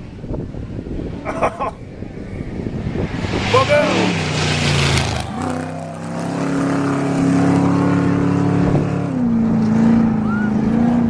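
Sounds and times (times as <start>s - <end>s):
engine running hard passing by: 0.0s - 11.0s.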